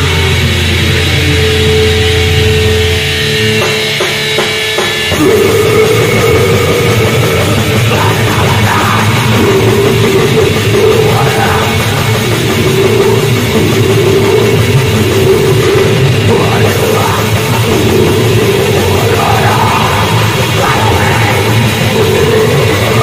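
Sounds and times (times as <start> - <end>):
distorted death metal music: 0.0 - 23.0.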